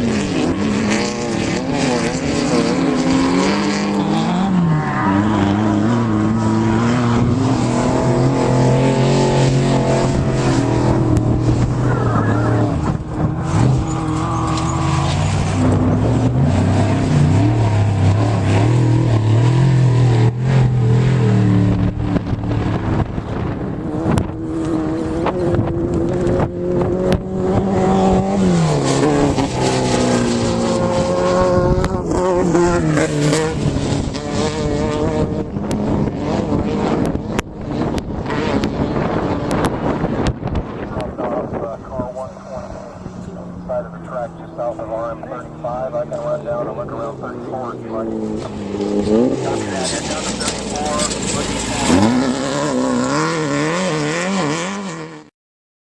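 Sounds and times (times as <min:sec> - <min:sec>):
off-road vehicle engine revving: 0:00.0 - 0:55.3.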